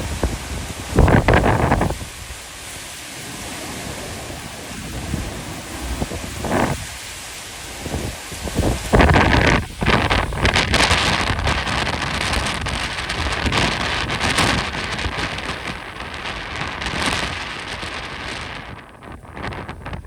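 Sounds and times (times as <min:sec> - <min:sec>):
strong wind gusting: 0:00.0 - 0:20.0.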